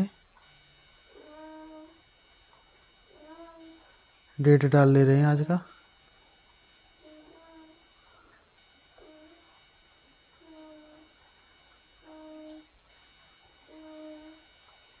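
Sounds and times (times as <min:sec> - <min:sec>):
high insect trilling: 0:00.0 - 0:15.0.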